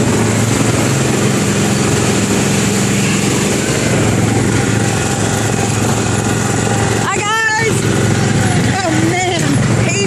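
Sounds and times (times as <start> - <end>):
small gasoline engine running: 0.0 - 10.0.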